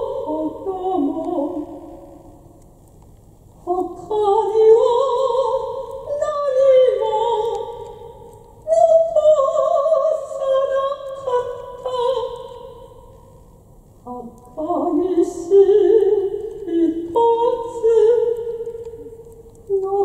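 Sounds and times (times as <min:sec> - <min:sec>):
woman singing into microphone: 0:00.0 - 0:02.2, 0:03.6 - 0:13.0, 0:14.1 - 0:20.0.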